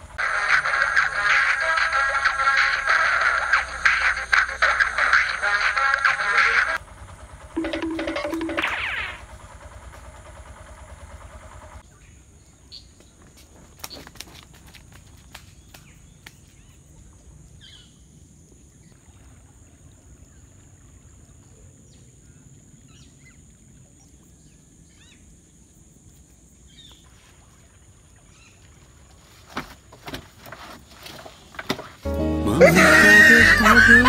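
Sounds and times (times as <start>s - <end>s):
insect drone: 0.0s - 28.9s.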